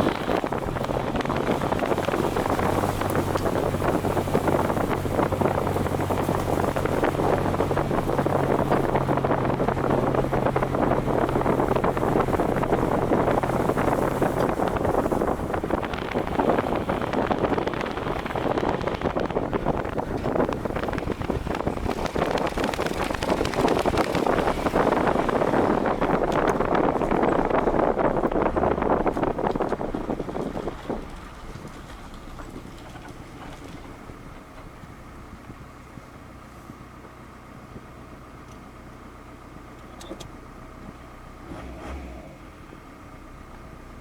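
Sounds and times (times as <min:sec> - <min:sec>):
low engine hum: 0:00.0 - 0:44.0
wind noise on microphone: 0:00.0 - 0:44.0.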